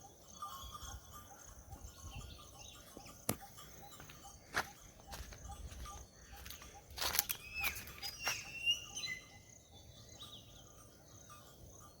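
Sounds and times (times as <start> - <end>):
birds chirping and calling: 0.0 - 12.0
insect trill: 0.0 - 12.0.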